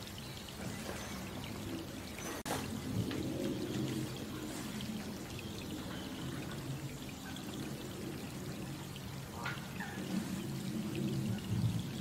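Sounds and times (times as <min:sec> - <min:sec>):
rain falling on water: 0:00.0 - 0:12.0.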